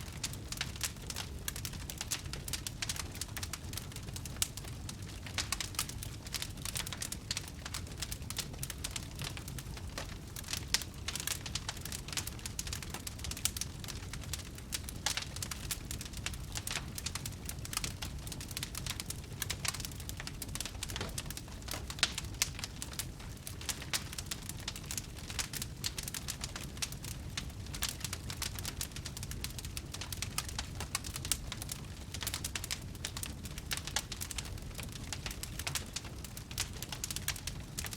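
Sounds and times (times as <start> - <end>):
fire crackling: 0.0 - 37.9.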